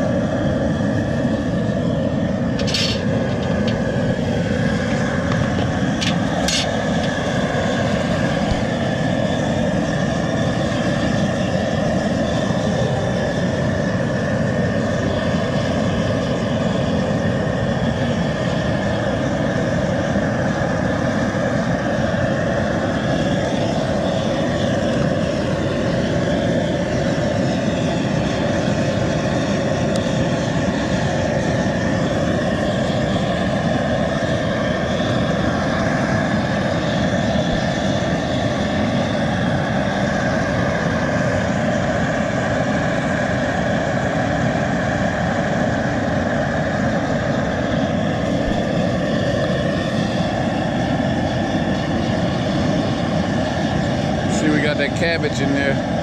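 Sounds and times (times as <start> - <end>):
gas burner roaring: 0.0 - 56.0.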